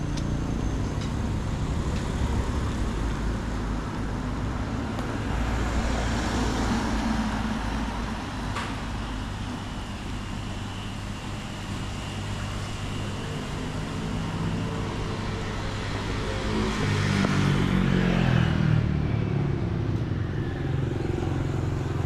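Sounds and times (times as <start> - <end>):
street traffic engines: 0.0 - 22.0.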